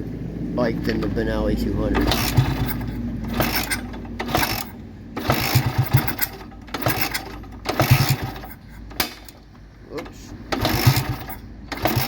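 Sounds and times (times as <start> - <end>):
motorcycle engine turning over: 0.8 - 12.0.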